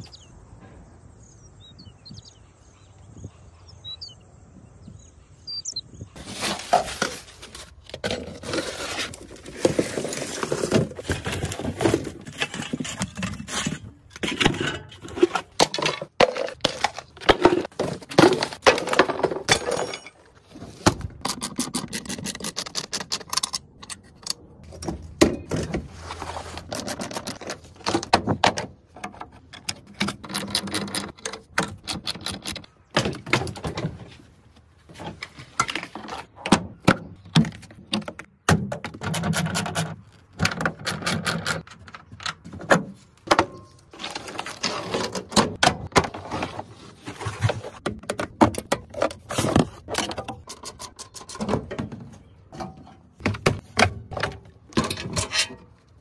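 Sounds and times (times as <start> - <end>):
wooden battens and buckets clattering: 6.2 - 56.0.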